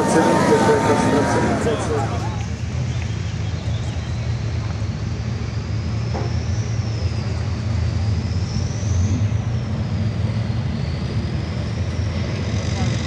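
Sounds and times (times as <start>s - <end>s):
tank engine and track rumble: 0.0s - 13.0s.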